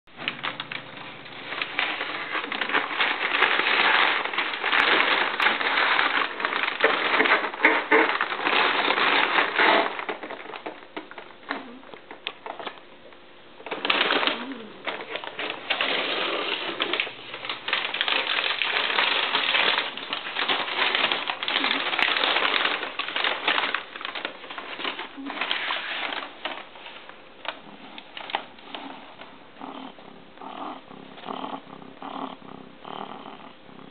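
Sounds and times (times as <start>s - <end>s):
packing paper crinkling: 0.1s - 12.8s, 13.6s - 31.5s.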